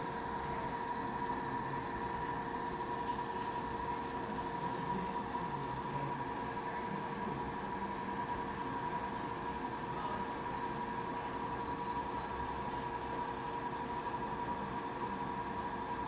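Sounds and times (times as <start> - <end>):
small machine humming and whining: 0.0 - 16.0.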